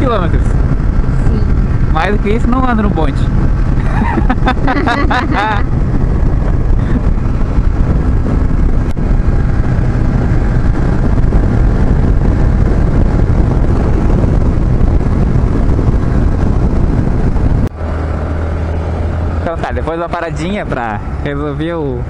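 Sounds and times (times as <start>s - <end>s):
motorcycle engine running: 0.0s - 21.9s
wind on microphone: 0.0s - 22.0s.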